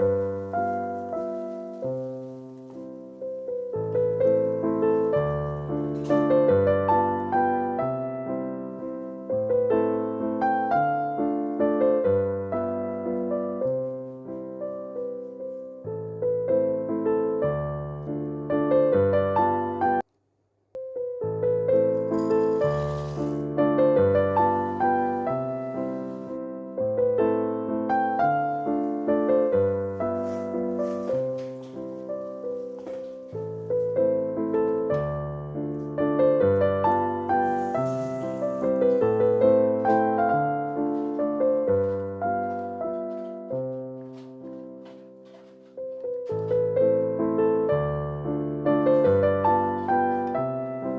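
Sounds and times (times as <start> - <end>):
gentle piano music: 0.0 - 20.1, 20.8 - 50.9.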